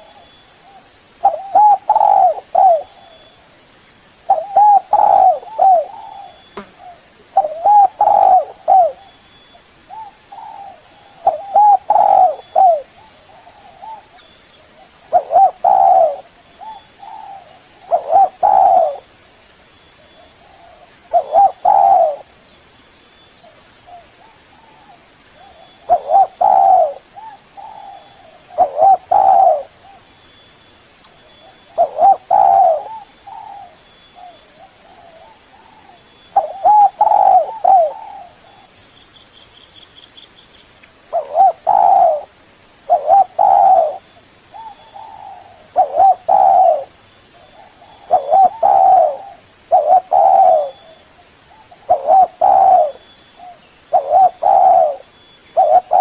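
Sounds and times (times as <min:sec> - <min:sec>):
dove cooing: 0:00.0 - 0:03.4, 0:04.3 - 0:09.2, 0:09.9 - 0:19.1, 0:20.1 - 0:22.3, 0:23.4 - 0:30.1, 0:31.3 - 0:38.7, 0:41.1 - 0:42.3, 0:42.9 - 0:56.0.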